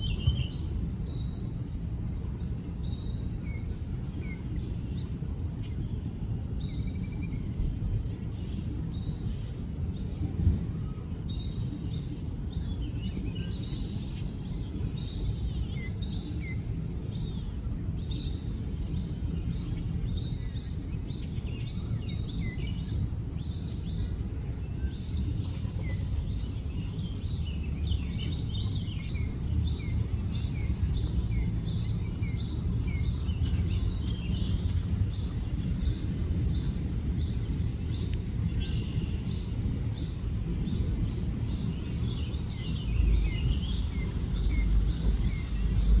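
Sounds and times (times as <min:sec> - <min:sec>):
small birds chirping: 0:00.0 - 0:46.0
steady low rumble: 0:00.0 - 0:46.0.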